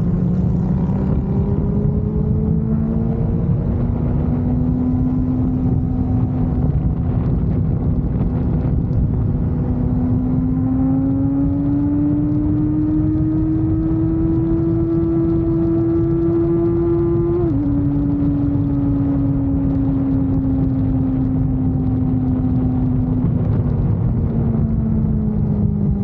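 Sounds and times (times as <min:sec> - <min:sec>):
low steady rumble: 0:00.0 - 0:26.0
motorcycle engine running: 0:00.0 - 0:26.0.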